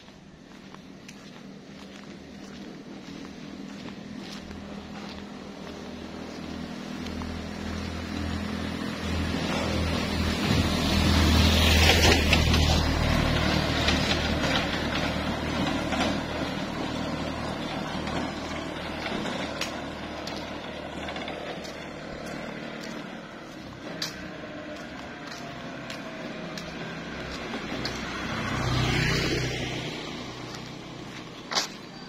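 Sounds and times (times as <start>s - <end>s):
small vehicle engine passing: 0.0s - 32.0s.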